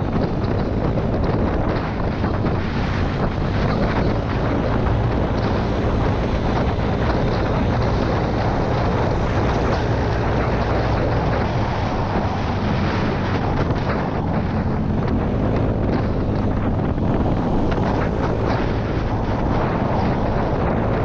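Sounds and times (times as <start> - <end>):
motorcycle engine humming: 0.0 - 21.0
wind rushing over microphone: 0.0 - 21.0.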